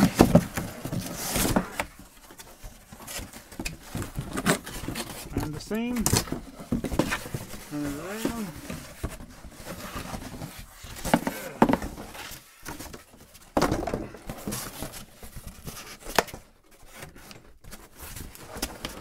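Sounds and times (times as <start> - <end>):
cardboard scraping and rustling: 0.0 - 19.0.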